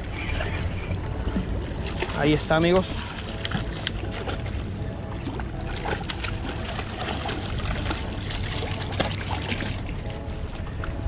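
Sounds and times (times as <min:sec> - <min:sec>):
steady low rumble: 0:00.0 - 0:11.0
water sloshing against rocks: 0:00.0 - 0:11.0
fish thrashing and splashing: 0:00.2 - 0:11.0.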